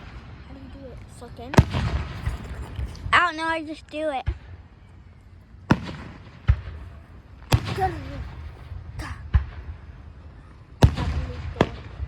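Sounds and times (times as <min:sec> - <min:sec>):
fireworks bangs: 0:00.0 - 0:04.6, 0:05.7 - 0:12.0.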